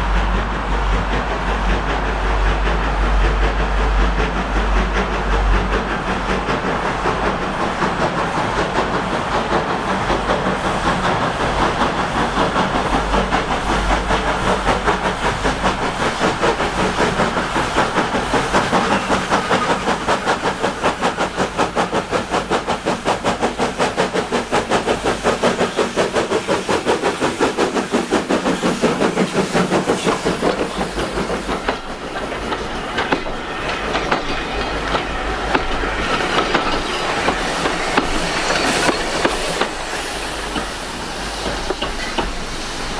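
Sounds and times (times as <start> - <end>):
steam locomotive chuffing: 0.0 - 42.9.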